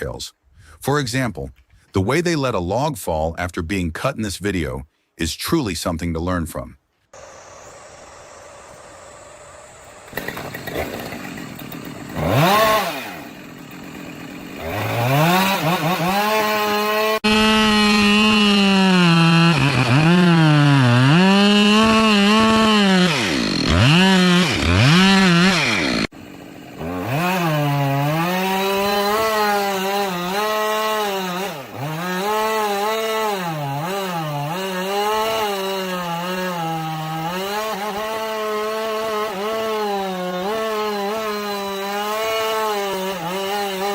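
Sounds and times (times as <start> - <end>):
chainsaw cutting a tree: 7.2 - 43.9.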